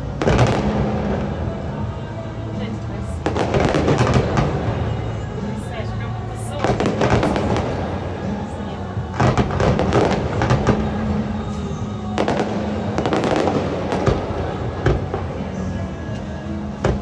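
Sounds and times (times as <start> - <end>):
background music: 0.0 - 17.0
fireworks bangs and crackling: 0.0 - 17.0
voices: 0.0 - 17.0.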